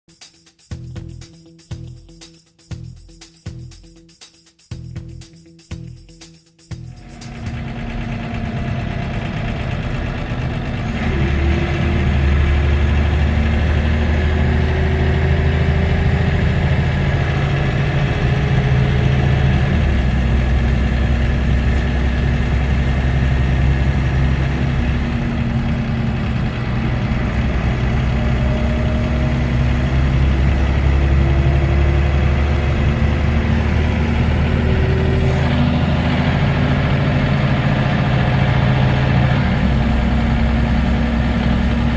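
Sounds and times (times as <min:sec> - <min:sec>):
bus diesel engine revving: 0:06.9 - 0:41.9.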